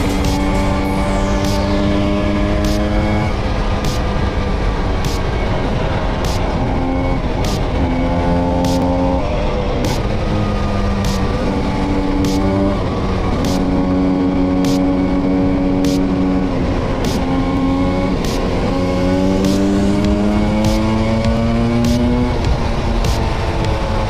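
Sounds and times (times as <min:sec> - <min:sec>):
low wind rumble: 0:00.0 - 0:24.0
scooter engine revving: 0:00.0 - 0:24.0.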